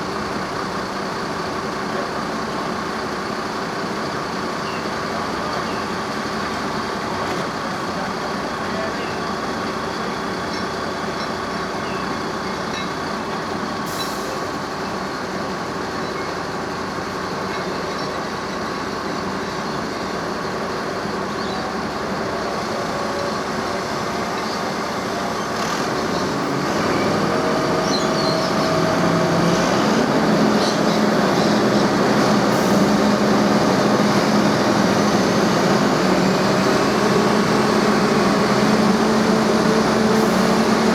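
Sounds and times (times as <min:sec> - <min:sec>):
diesel locomotive engine running: 0:00.0 - 0:40.9.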